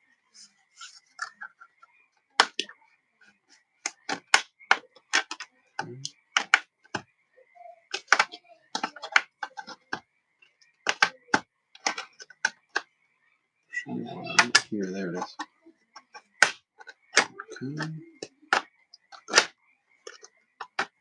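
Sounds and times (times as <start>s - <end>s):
plastic clicks and taps: 1.2s - 7.1s, 7.9s - 12.9s, 14.3s - 21.0s.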